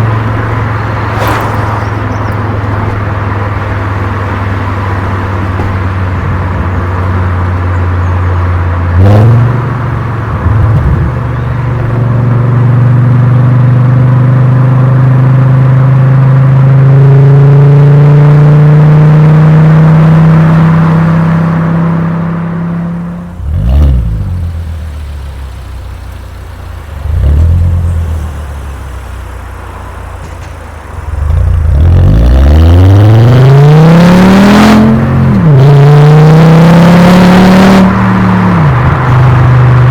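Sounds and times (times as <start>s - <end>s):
car engine revving through exhaust: 0.0s - 26.0s, 26.6s - 30.2s, 30.9s - 39.9s.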